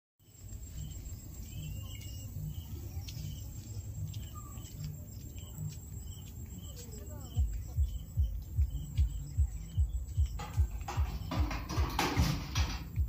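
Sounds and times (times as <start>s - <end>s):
birds chirping and calling: 0.2s - 13.0s
insect drone: 0.2s - 13.0s
pulsing low rumble: 0.7s - 12.0s.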